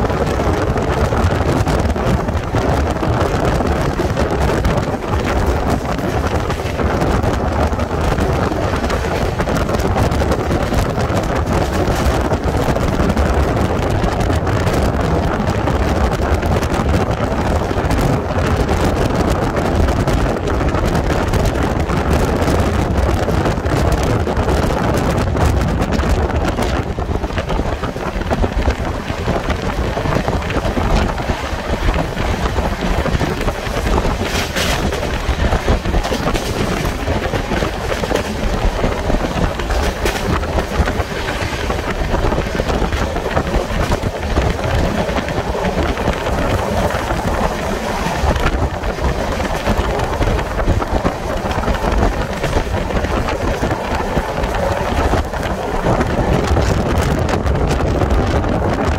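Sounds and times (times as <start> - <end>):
train wheels rumbling at speed: 0.0 - 58.9
wind blasting microphone: 0.0 - 58.9.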